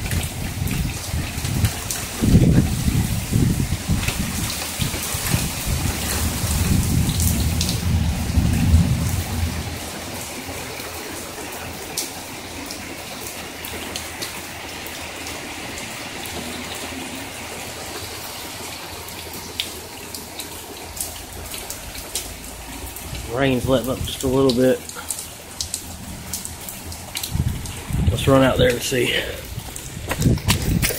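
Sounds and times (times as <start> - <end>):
heavy rain falling: 0.0 - 30.9
raindrops tapping: 0.0 - 30.9.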